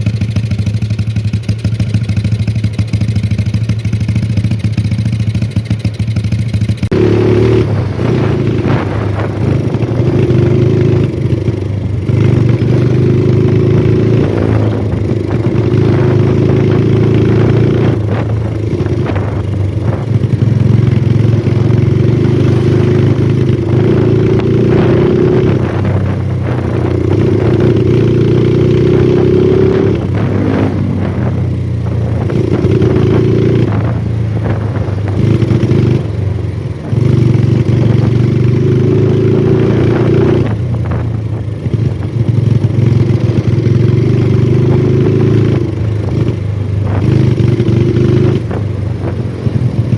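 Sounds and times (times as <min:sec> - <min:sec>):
engine running loudly: 0:00.0 - 0:49.9.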